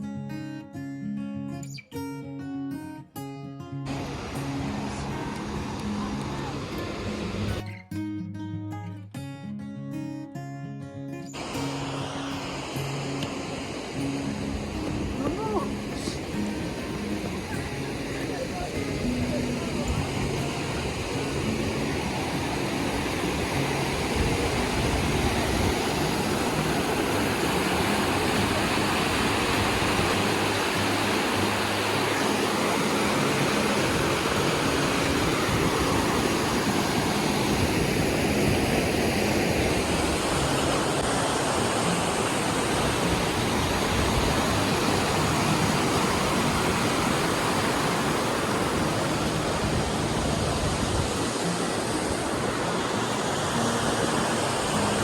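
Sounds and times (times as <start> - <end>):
waterfall rushing: 3.9 - 7.6, 11.4 - 55.0.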